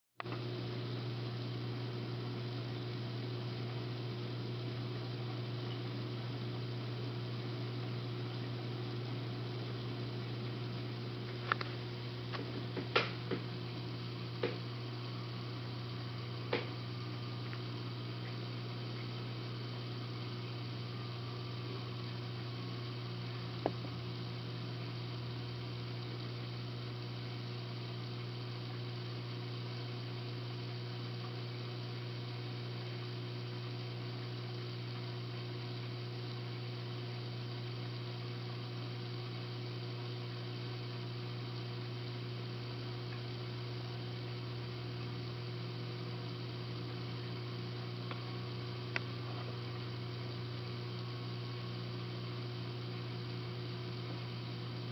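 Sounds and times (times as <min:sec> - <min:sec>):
aquarium equipment humming: 0:00.2 - 0:54.9.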